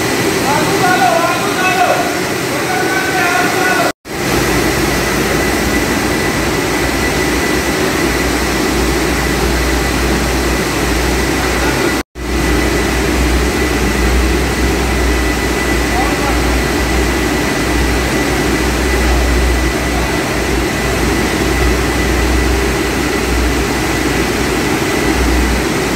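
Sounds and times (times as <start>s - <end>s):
high machine whine: 0.0s - 25.9s
machinery hum: 0.0s - 25.9s.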